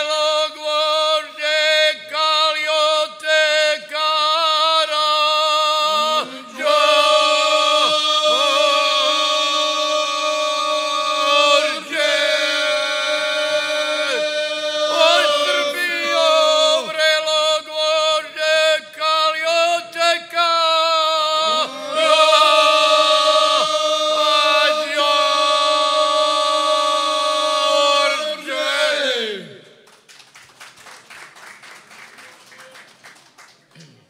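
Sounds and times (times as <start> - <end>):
group of men singing unaccompanied: 0.0 - 18.8, 19.6 - 29.7.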